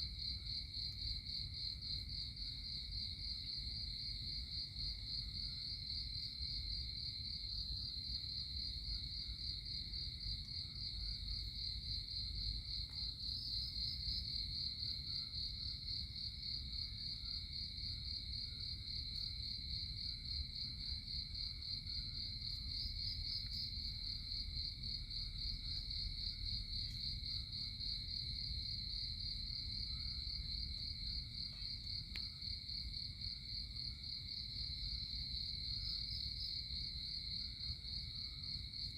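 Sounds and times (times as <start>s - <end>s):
low insect drone: 0.0s - 38.9s.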